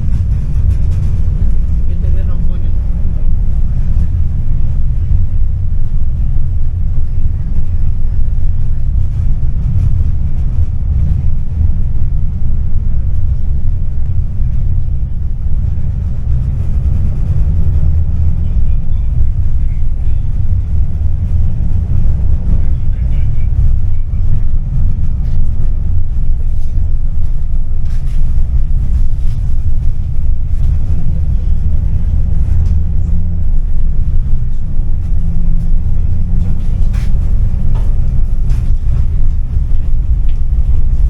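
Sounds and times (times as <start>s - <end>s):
tram cabin rumble: 0.0s - 41.0s.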